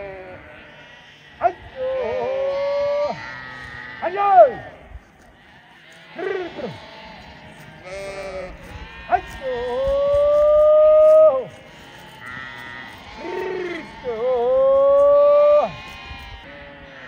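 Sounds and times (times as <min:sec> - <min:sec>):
sheep bleating: 0:00.0 - 0:17.0.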